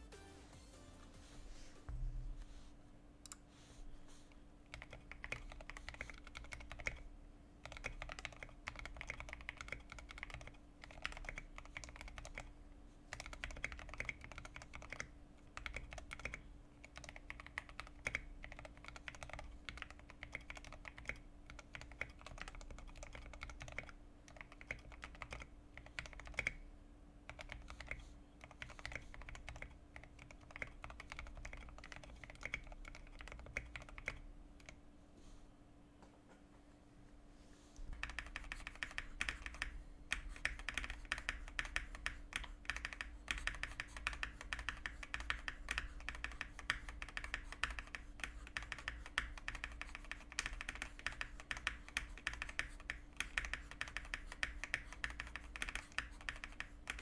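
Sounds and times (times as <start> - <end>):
faint steady hum: 0.0 - 57.0
fast mechanical keyboard typing: 4.7 - 26.7, 27.3 - 34.8, 37.9 - 57.0.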